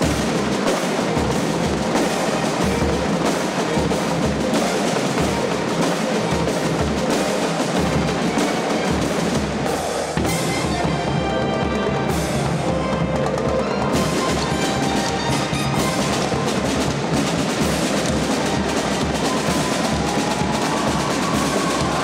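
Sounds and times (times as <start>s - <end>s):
snare and bass drums playing: 0.0s - 22.0s.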